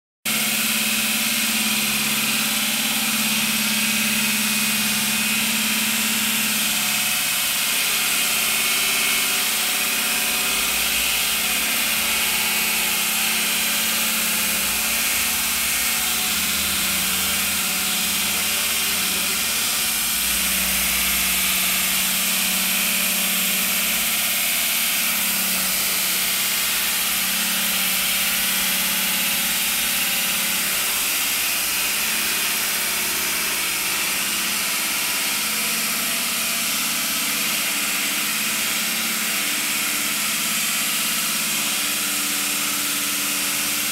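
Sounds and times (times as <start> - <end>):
concrete saw cutting concrete: 0.3 - 43.9.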